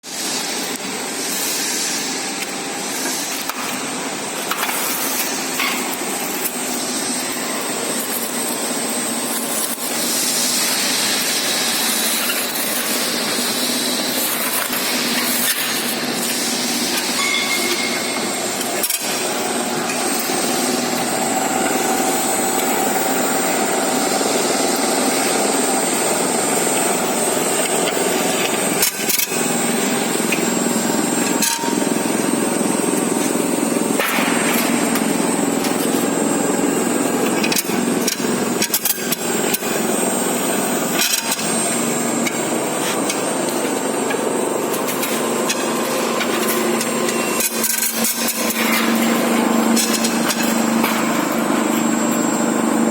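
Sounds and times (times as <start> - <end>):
high machine whine: 0.0 - 52.9
duct forming machine scraping: 0.2 - 52.9.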